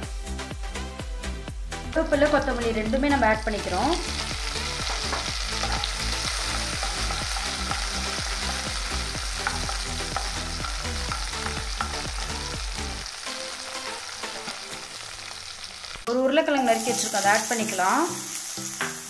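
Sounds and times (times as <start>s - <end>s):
spices sizzling in hot oil: 1.9s - 19.0s.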